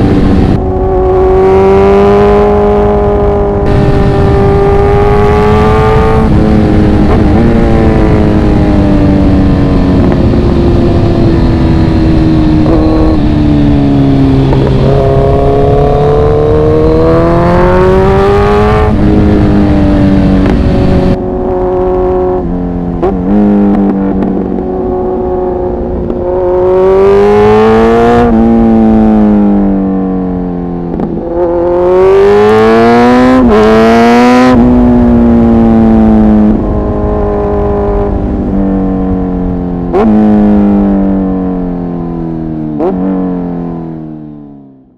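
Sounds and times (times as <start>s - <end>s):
wind noise: 0.0s - 44.0s
motorcycle engine revving: 0.0s - 44.9s.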